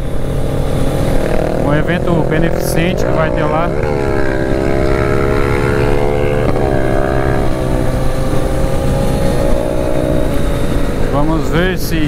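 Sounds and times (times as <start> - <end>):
motorcycle engine cruising: 0.0 - 12.0
wind noise: 0.0 - 12.0.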